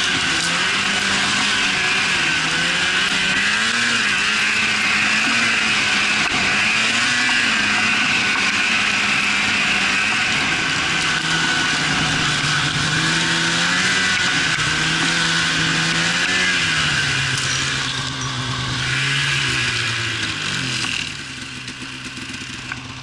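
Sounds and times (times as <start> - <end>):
snowmobile engine running: 0.0 - 23.0.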